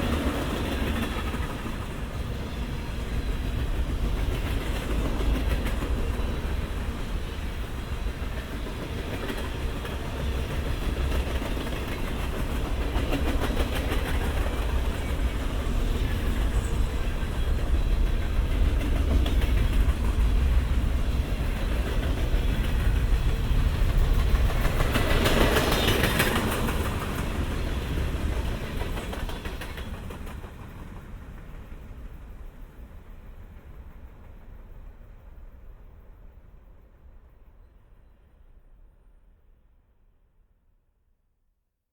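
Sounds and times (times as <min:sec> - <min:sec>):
freight train rumbling: 0:00.0 - 0:38.3.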